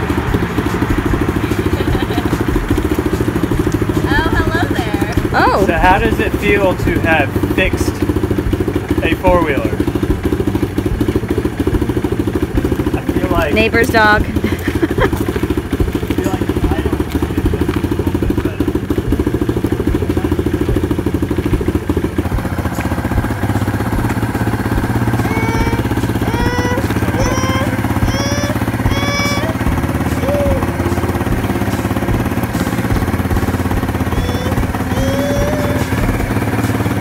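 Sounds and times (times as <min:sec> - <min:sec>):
atv engine idling: 0:00.0 - 0:37.0.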